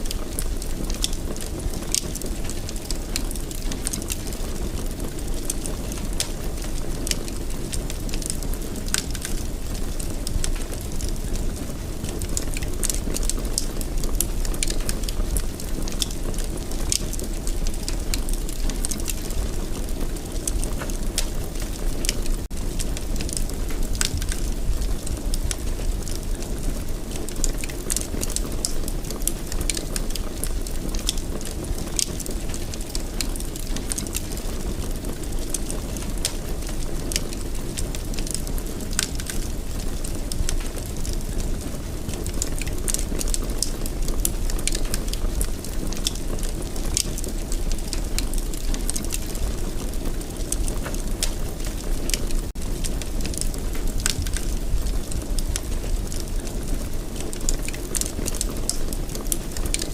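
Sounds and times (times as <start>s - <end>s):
fire pops and snaps: 0.0s - 59.9s
wood fire crackling: 0.0s - 59.9s.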